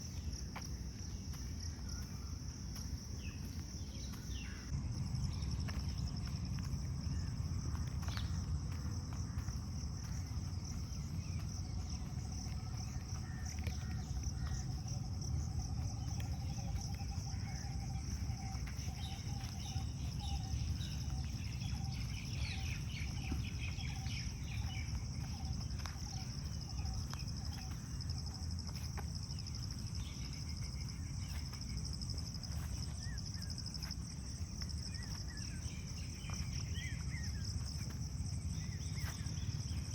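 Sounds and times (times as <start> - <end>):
insects trilling: 0.0 - 39.9
low background rumble: 0.0 - 39.9
birds calling: 1.7 - 39.9.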